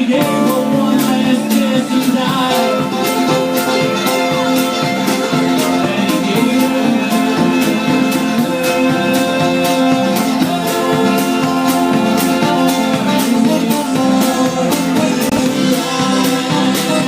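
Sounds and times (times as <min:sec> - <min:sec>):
guitar with sustained notes: 0:00.0 - 0:17.0
live band playing: 0:00.0 - 0:17.0.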